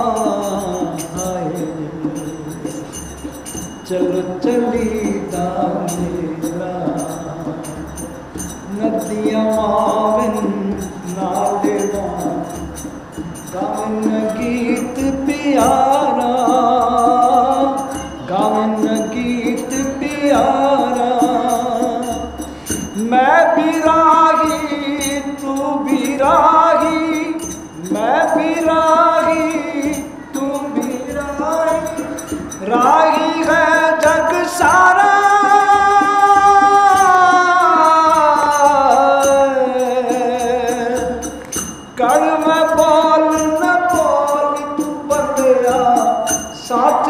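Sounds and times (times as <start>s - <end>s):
hand drums: 0.0s - 47.0s
jingling percussion: 0.0s - 47.0s
man singing devotional verse: 0.0s - 47.0s.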